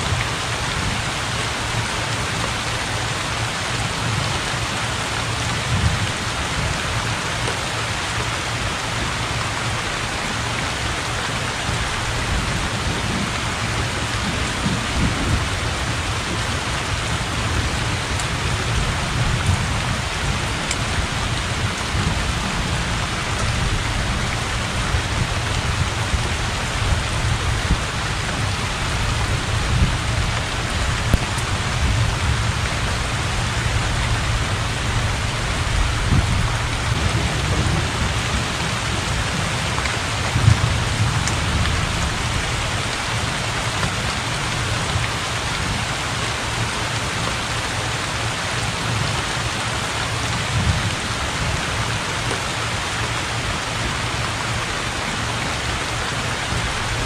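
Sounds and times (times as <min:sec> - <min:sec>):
heavy rain on water: 0:00.0 - 0:57.0.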